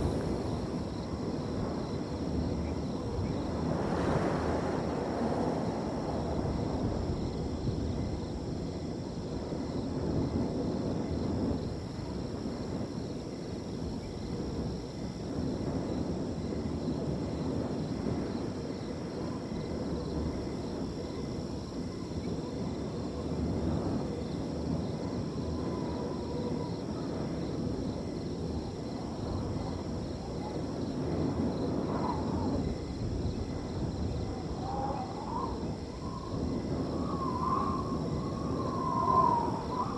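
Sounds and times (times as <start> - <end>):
crickets trilling: 0.0 - 39.9
wind blowing in gusts: 0.0 - 39.9.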